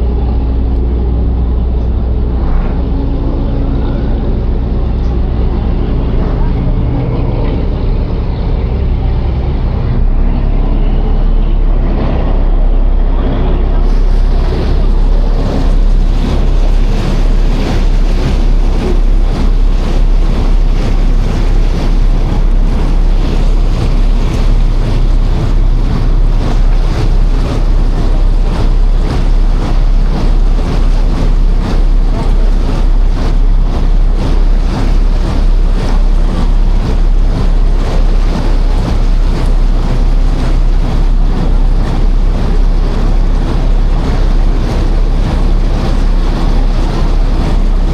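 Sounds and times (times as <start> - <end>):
low ferry engine hum: 0.0 - 47.9
water rushing past hull: 0.0 - 47.9
wind buffeting microphone: 0.0 - 47.9.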